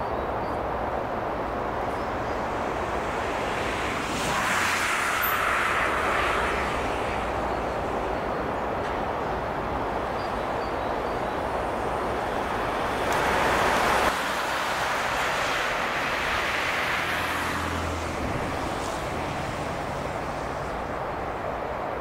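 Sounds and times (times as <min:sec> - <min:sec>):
motorway traffic: 0:00.0 - 0:22.0.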